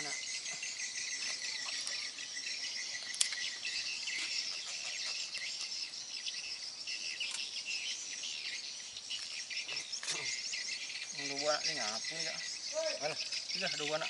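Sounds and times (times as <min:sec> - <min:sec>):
bird-like chirps: 0:00.0 - 0:14.0
high-pitched insect chorus: 0:00.0 - 0:14.0.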